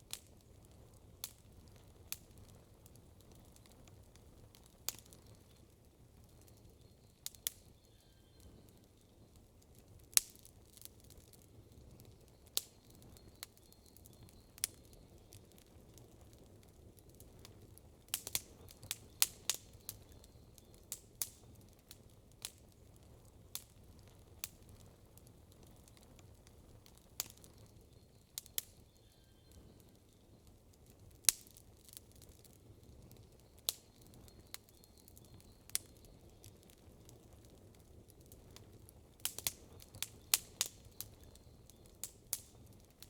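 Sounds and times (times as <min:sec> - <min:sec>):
campfire wood crackling: 0:00.0 - 0:43.0.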